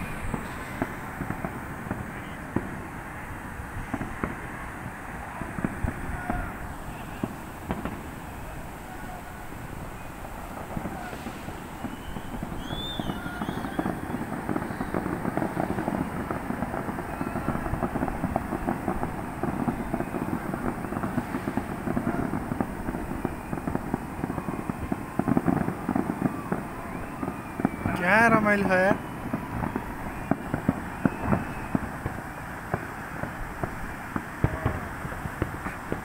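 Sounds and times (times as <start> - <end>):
fireworks crackling and popping: 0.0 - 36.0.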